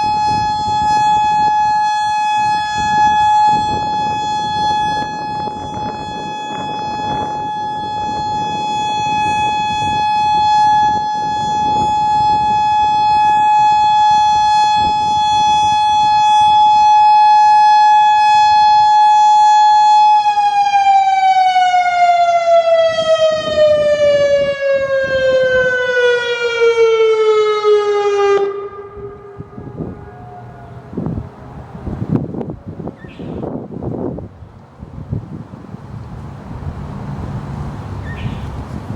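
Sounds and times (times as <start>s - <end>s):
electronic warning siren: 0.0s - 33.6s
wind buffeting microphone: 0.0s - 38.9s.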